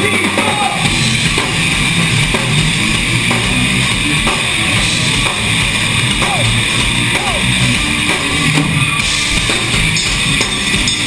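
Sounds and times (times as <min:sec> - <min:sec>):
drum kit beat: 0:00.0 - 0:11.0
live rock band playing: 0:00.0 - 0:11.0.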